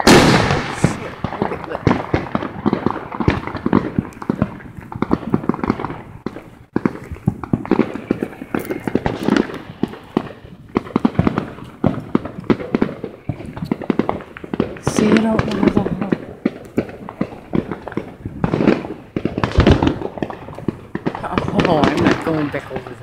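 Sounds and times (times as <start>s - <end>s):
firecrackers popping: 0.0s - 23.0s.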